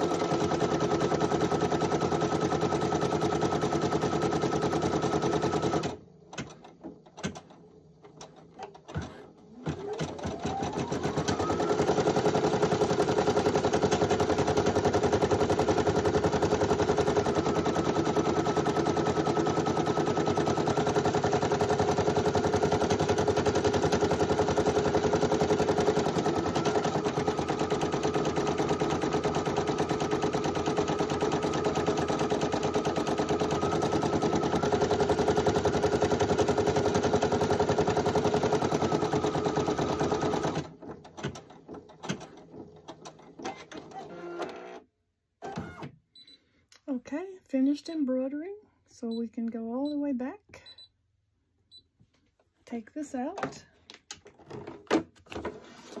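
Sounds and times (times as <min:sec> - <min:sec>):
embroidery machine stitching: 0:00.0 - 0:44.8.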